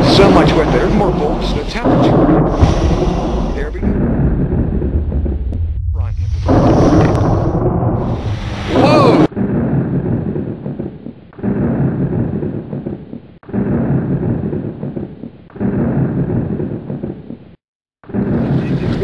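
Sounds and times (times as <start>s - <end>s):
thunder claps rumbling: 0.0s - 19.0s.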